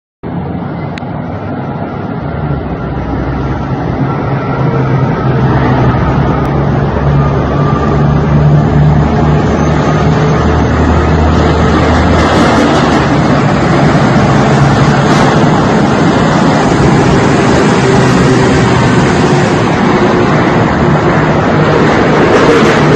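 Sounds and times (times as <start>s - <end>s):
heavy vehicle engine humming: 0.2s - 22.9s
road noise: 0.2s - 22.9s.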